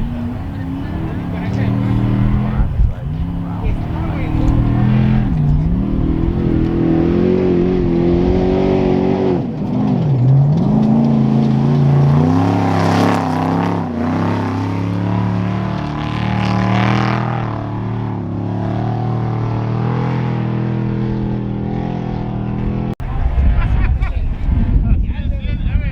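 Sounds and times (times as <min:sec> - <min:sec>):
truck engine running hard: 0:00.0 - 0:24.8.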